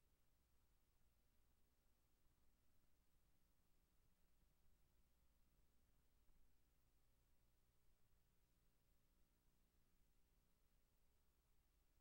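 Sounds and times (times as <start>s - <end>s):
faint low hum and hiss: 0.0s - 12.0s.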